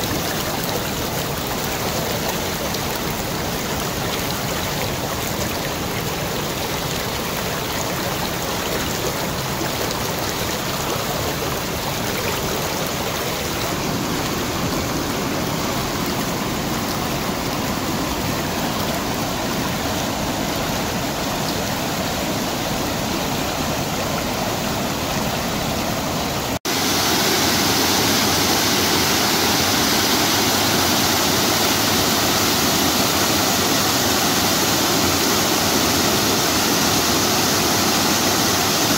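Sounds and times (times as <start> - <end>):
shallow stream flowing: 0.0 - 38.9
water rushing over weir: 0.0 - 38.9.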